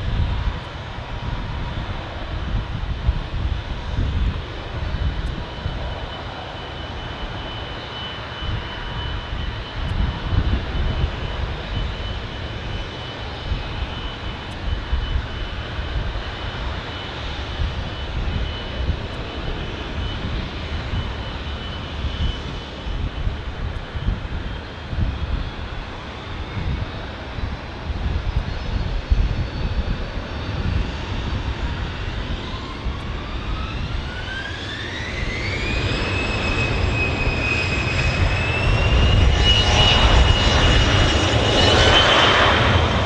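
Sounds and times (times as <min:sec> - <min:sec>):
jet engines at takeoff power: 0:00.0 - 0:43.0.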